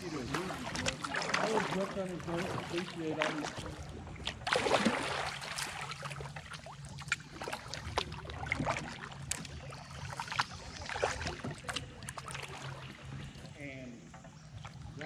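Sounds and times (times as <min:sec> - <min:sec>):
paddle splashing in water: 0:00.0 - 0:13.6
water dripping from paddle: 0:00.1 - 0:15.0.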